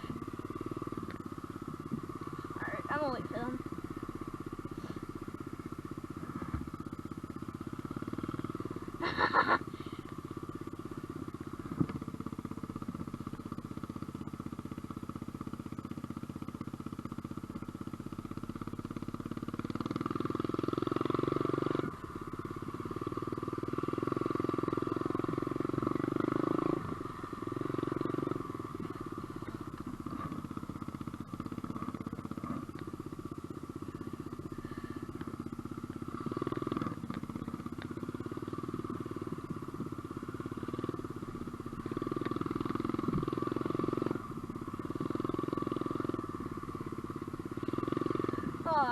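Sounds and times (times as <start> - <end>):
dirt bike engine idling: 0.0 - 48.9.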